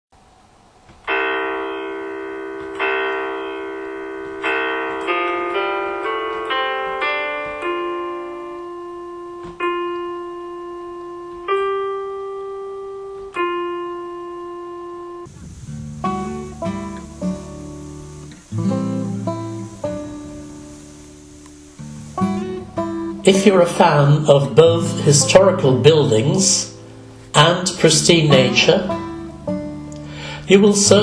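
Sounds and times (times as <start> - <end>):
solo piano music: 1.1 - 31.0.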